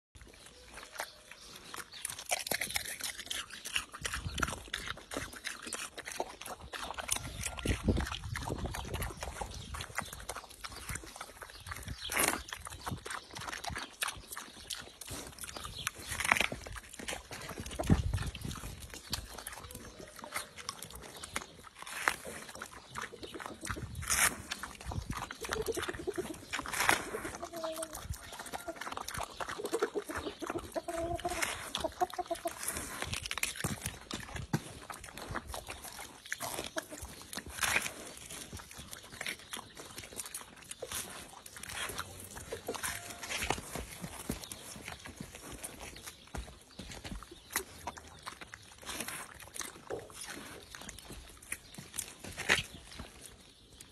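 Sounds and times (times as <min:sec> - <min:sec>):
pig crunching watermelon: 0:00.2 - 0:53.9.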